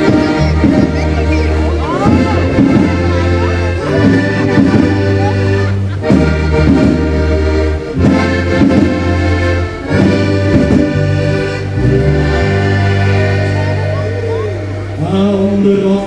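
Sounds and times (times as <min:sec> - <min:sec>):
drum kit beat: 0:00.0 - 0:13.3
accordions playing a tune: 0:00.0 - 0:16.0
low bass notes: 0:00.0 - 0:16.0.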